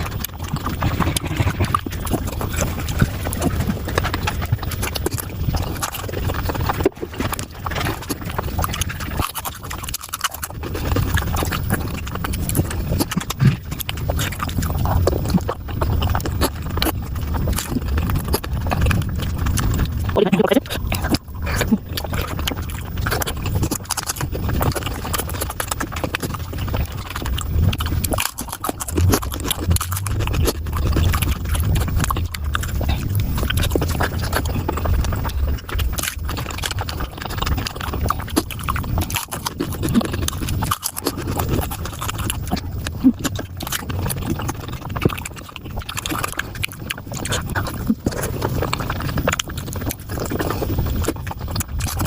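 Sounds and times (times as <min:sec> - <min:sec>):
sped-up close chewing: 0:00.0 - 0:52.0.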